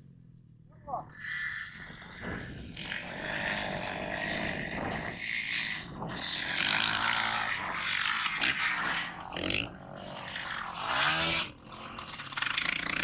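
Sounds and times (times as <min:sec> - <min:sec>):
dirt bike engines: 0:00.0 - 0:13.0.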